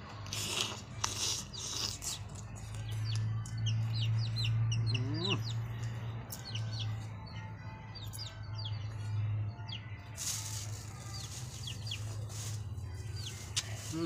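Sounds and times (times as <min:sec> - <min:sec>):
birds chirping: 0:01.2 - 0:14.0.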